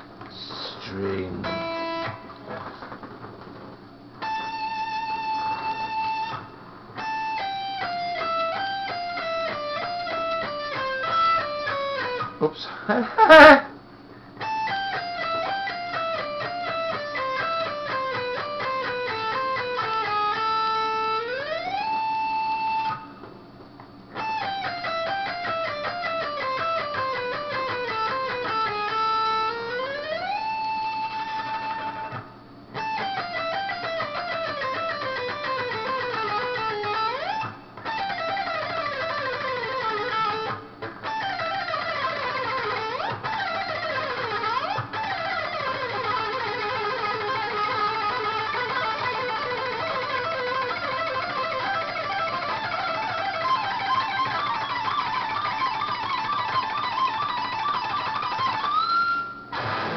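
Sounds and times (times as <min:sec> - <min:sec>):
electric guitar picked runs: 0:00.0 - 0:59.9.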